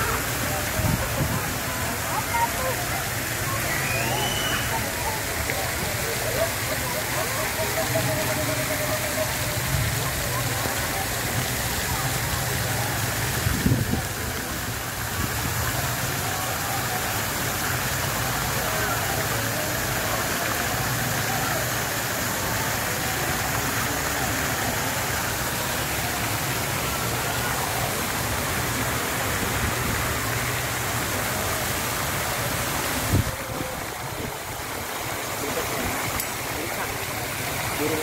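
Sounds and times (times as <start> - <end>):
faint voices: 0.0 - 38.0
fountain water rushing: 0.0 - 38.0
waterfall splashing into pond: 0.0 - 38.0.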